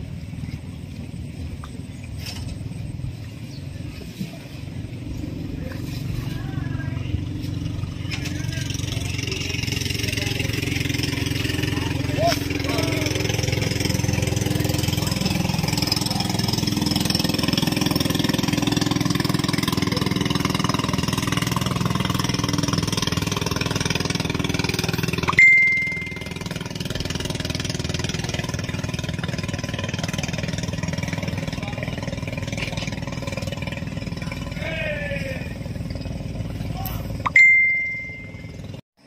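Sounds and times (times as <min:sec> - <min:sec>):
engine idling: 0:00.0 - 0:38.8.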